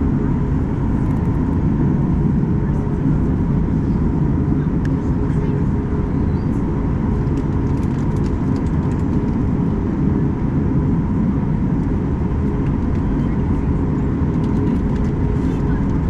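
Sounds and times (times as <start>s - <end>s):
airplane cabin engine drone: 0.0s - 16.0s.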